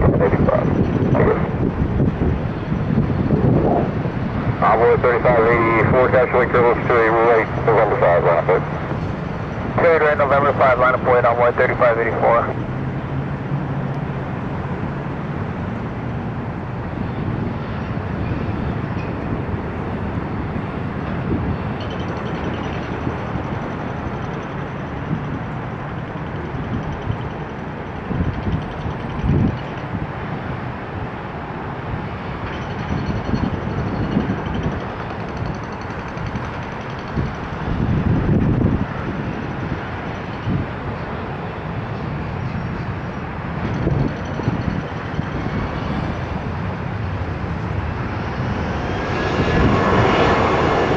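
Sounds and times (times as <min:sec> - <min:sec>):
jet engines at takeoff power: 0:00.0 - 0:50.9.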